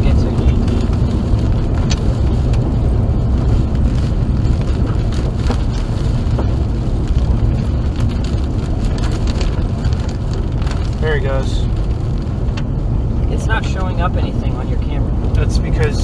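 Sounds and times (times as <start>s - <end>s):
car driving low rumble: 0.0s - 16.0s
wind buffeting microphone: 0.0s - 16.0s.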